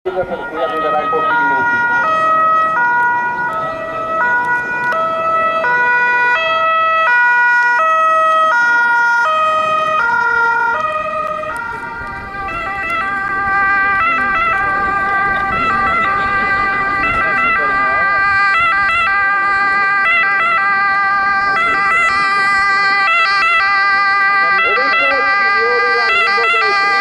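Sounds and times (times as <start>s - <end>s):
ambulance siren: 0.0s - 27.0s
police car two-tone siren: 0.1s - 27.0s.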